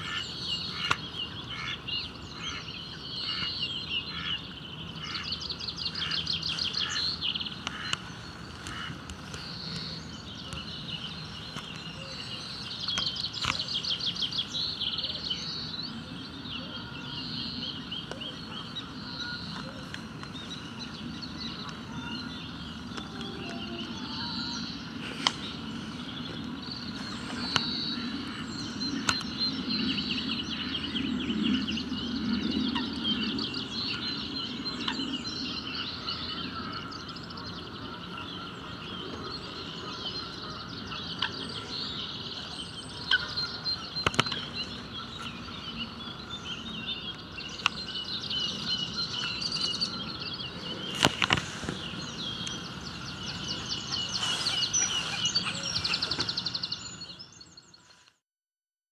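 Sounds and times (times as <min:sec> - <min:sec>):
songbirds chirping and singing: 0:00.0 - 0:58.2.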